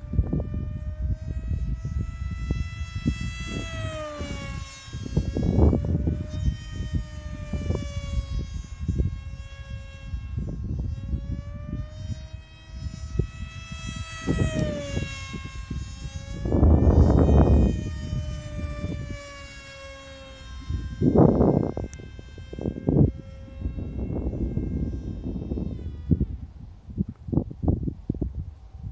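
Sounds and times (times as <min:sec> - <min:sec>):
electric motor and propeller whine: 0:00.0 - 0:28.9.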